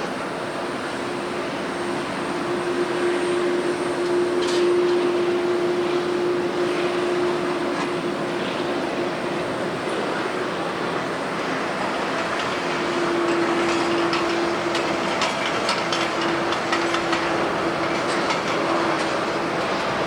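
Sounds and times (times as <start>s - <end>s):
jet airliner engine passing: 0.0s - 20.0s.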